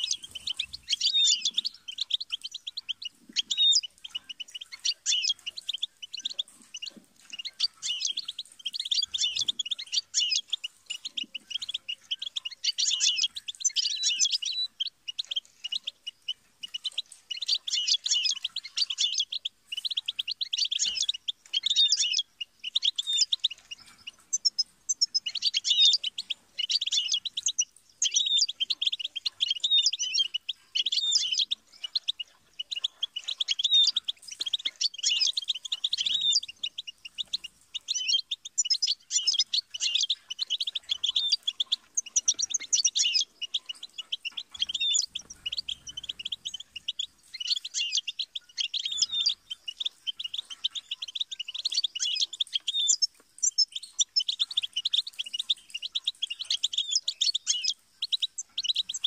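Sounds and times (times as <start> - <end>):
finch twittering song: 0.0 - 59.0.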